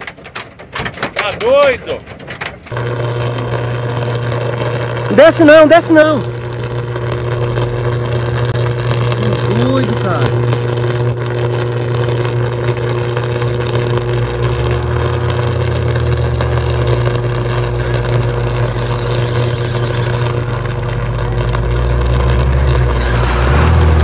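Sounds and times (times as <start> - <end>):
power line arcing and crackling: 0.0 - 24.0
low electrical buzz: 2.7 - 24.0.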